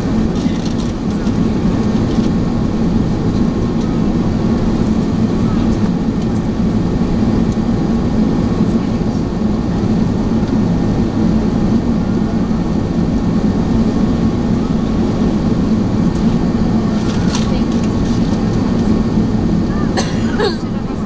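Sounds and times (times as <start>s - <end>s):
airliner cabin engine noise: 0.0s - 21.0s.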